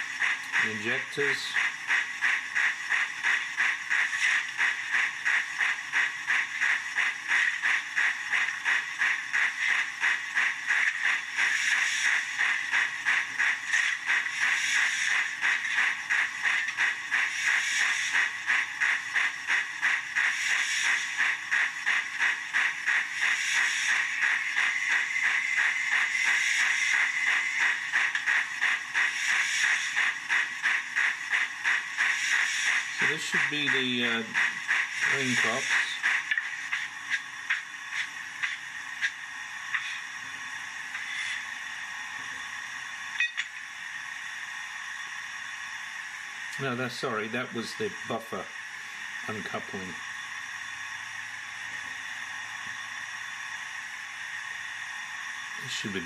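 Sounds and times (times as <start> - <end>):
steady steam hiss: 0.0 - 56.0
steam locomotive chuffing: 0.0 - 56.0.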